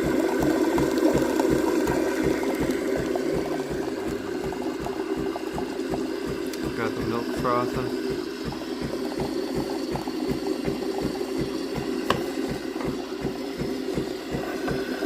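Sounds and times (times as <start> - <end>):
milk frothing bubbling and hissing: 0.0 - 15.0
pulsing espresso machine pump: 0.0 - 15.0.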